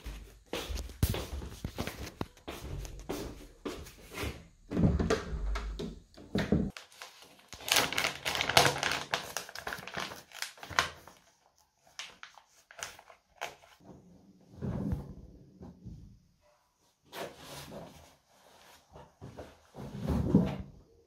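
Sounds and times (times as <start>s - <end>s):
laundry rustling and crinkling: 0.0s - 16.2s, 17.0s - 20.9s.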